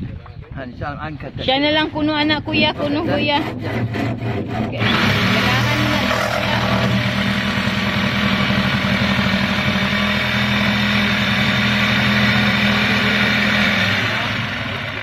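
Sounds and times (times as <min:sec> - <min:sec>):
jigsaw cutting plywood: 0:02.6 - 0:15.0.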